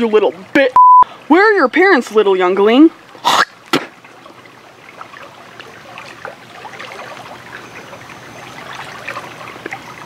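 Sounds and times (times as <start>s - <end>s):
creek water babbling over rocks: 1.2s - 10.0s.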